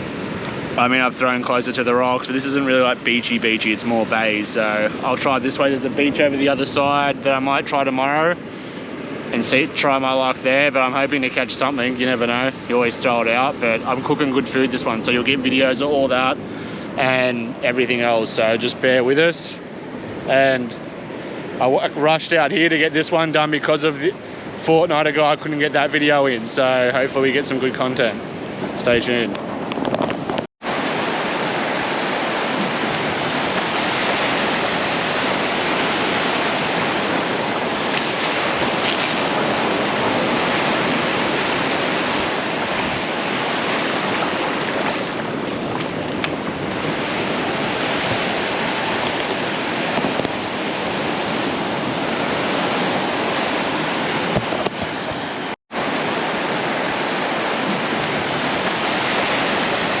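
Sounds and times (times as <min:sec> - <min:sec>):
waves breaking on shore: 0:00.0 - 1:00.0.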